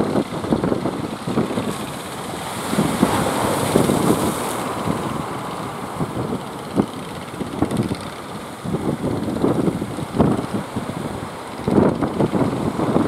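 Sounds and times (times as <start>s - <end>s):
sea rushing: 0.0s - 13.0s
wind buffeting microphone: 0.0s - 13.0s.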